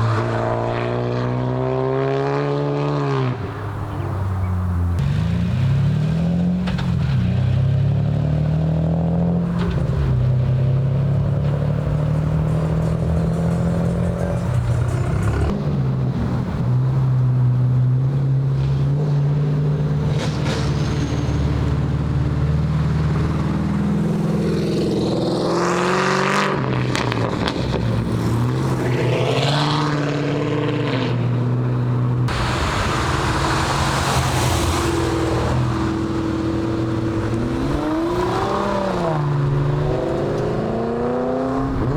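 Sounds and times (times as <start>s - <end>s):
cars revving accelerating away: 0.0s - 4.0s, 4.7s - 41.9s
car engines running: 3.2s - 41.9s.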